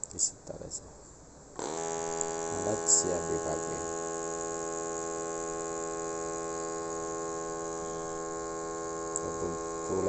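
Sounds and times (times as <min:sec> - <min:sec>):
small air pump buzzing: 0:01.6 - 0:10.0.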